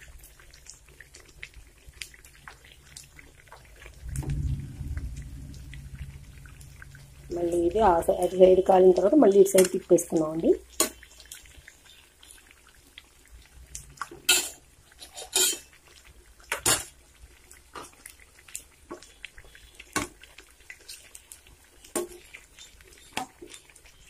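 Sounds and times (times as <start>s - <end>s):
oil sizzling: 0.0s - 24.0s.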